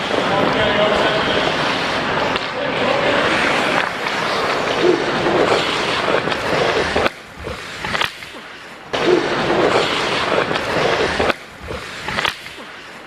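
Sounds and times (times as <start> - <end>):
ice skate blades scraping ice: 0.0 - 13.0.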